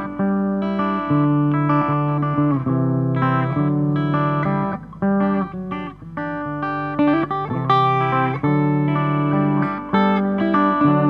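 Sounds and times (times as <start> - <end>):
guitar melody: 0.0 - 11.0.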